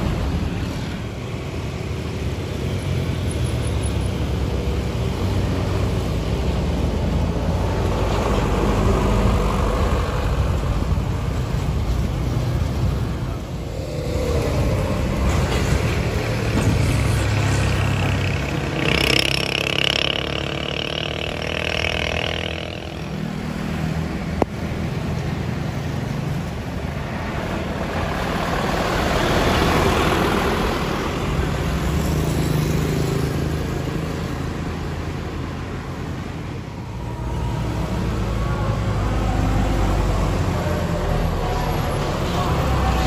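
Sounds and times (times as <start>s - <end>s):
motorbikes passing: 0.0s - 43.0s
trucks passing: 0.0s - 43.0s.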